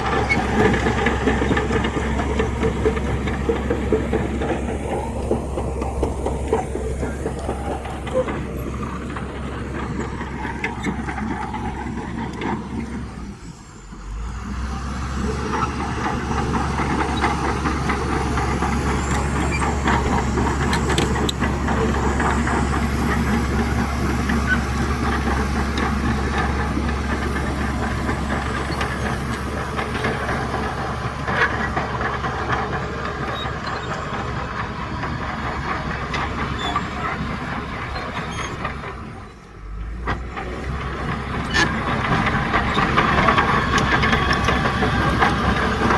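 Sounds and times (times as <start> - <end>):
machinery knocks and clanks: 0.0 - 13.3, 15.2 - 45.9
diesel machinery engine drone: 0.0 - 45.9.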